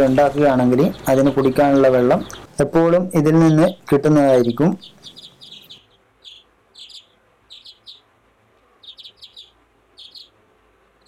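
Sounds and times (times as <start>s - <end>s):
chicks peeping: 0.0s - 8.1s, 8.8s - 10.4s.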